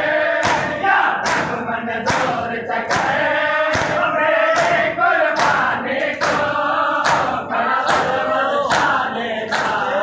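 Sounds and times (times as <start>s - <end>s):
crowd of men chanting: 0.0s - 10.0s
hands slapping chests: 0.4s - 9.8s.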